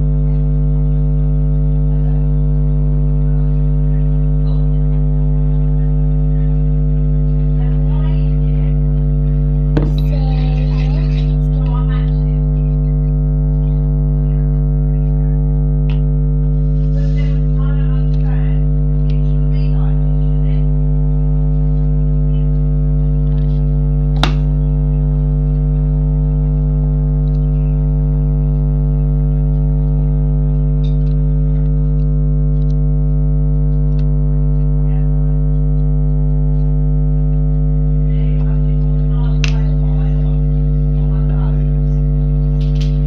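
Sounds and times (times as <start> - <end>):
loud steady hum: 0.0 - 43.0.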